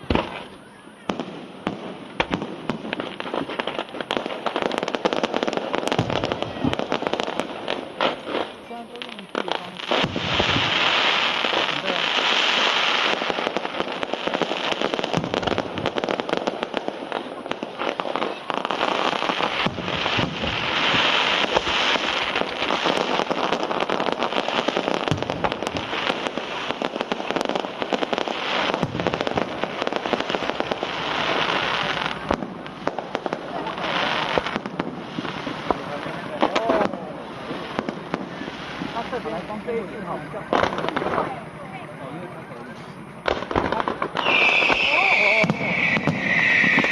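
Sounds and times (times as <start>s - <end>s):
deep fireworks booms: 0.0s - 46.9s
fireworks crackling: 0.0s - 46.9s.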